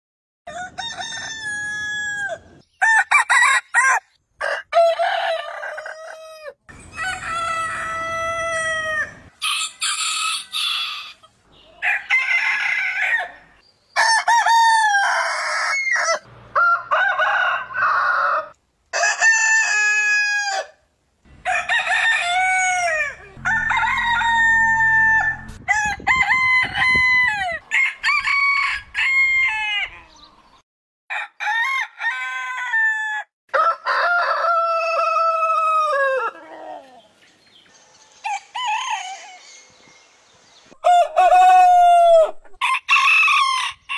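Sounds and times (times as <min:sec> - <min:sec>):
roosters crowing: 0:00.5 - 0:30.4, 0:31.1 - 0:37.1, 0:38.1 - 0:39.7, 0:40.7 - 0:43.9.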